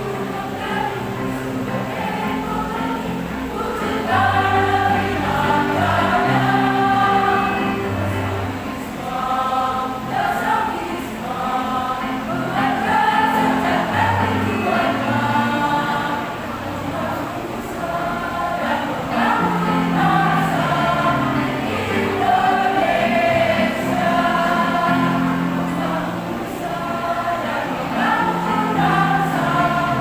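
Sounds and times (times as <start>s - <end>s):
choir singing held notes: 0.0s - 30.0s.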